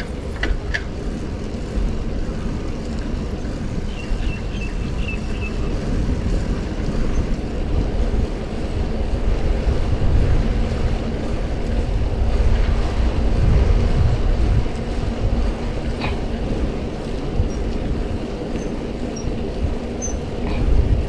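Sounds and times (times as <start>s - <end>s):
bicycle tyres on asphalt: 0.0s - 21.0s
wind buffeting microphone: 0.0s - 21.0s.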